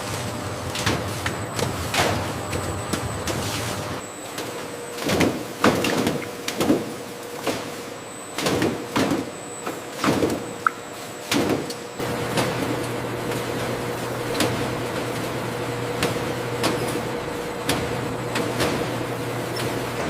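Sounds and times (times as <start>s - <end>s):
factory machinery hum: 0.0s - 20.0s.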